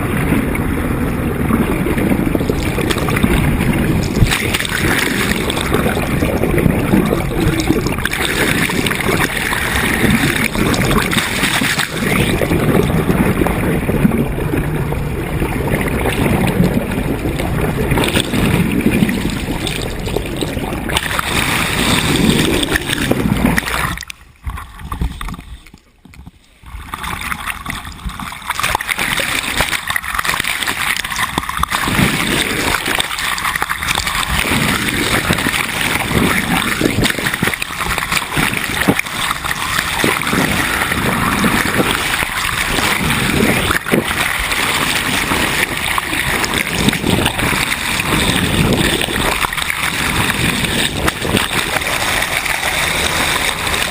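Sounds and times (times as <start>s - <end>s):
water splashing along a hull: 0.0s - 53.9s
wind buffeting the microphone: 0.0s - 53.9s.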